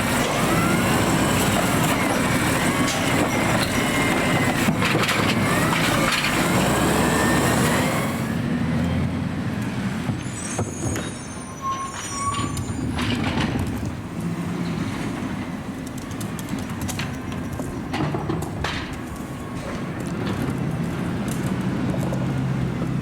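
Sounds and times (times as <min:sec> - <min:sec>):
garbage truck engine rumble: 0:00.0 - 0:23.0.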